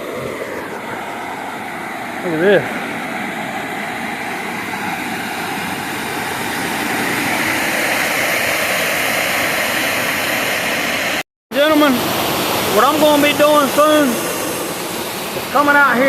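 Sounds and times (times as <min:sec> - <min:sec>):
water rushing over waterfall: 0:00.0 - 0:16.0.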